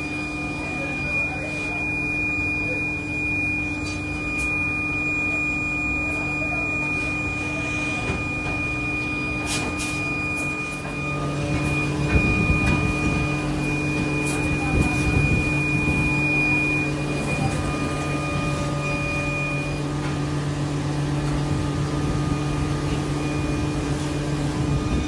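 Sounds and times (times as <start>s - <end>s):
high-pitched whine: 0.0s - 25.0s
workshop machinery hum: 0.0s - 25.0s.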